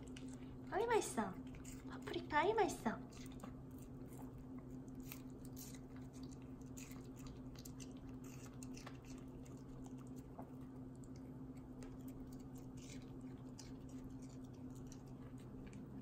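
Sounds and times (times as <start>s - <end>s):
puppy chewing crunchy food: 0.0s - 16.0s
steady low hum: 0.0s - 16.0s.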